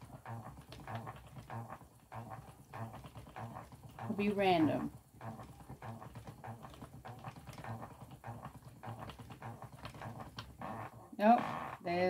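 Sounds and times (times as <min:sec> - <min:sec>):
spinning wheel creaking and clicking: 0:00.0 - 0:12.0.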